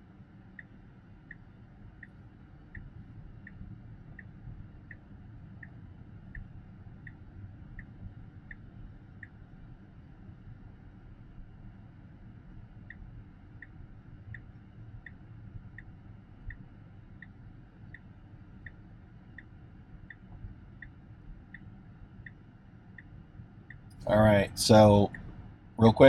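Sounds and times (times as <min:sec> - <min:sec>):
faint low car hum: 0:00.0 - 0:26.0.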